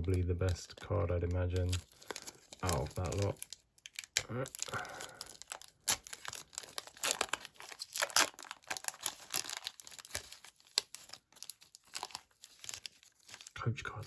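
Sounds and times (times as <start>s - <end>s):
wrapper being torn and crinkled: 0.0s - 13.6s.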